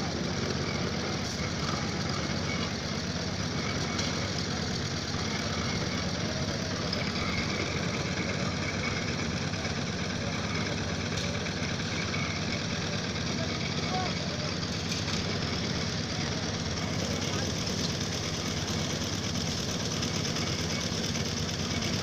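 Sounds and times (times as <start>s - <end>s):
engine rumbling steadily: 0.0s - 22.0s.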